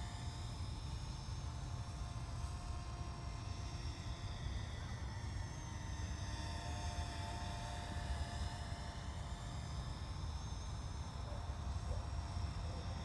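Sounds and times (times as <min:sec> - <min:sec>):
faint drone motor whine: 0:00.0 - 0:13.0.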